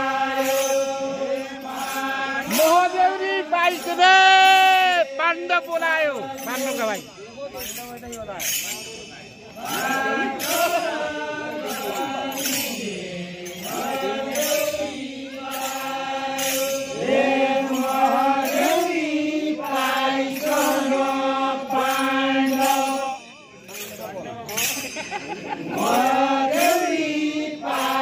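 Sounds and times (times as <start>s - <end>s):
men chanting in unison: 0.0s - 7.1s, 9.5s - 23.3s, 25.4s - 28.0s.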